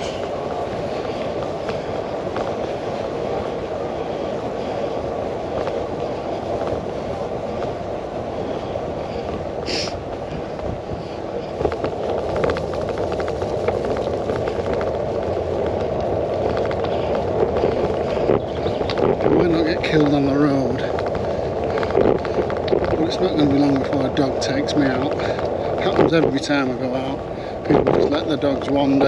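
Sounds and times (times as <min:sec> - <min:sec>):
bicycle tyres rumbling: 0:00.0 - 0:29.0
wind: 0:00.0 - 0:29.0.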